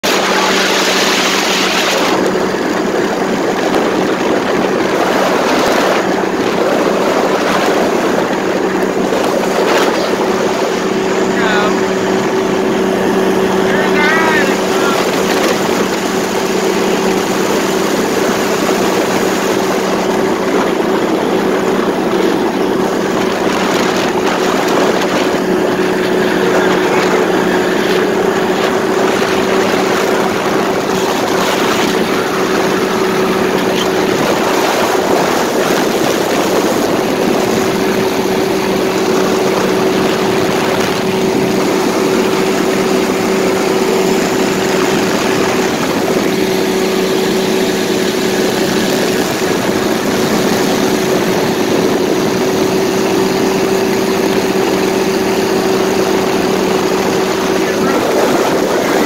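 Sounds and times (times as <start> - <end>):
paramotor engine droning: 0.0 - 59.0.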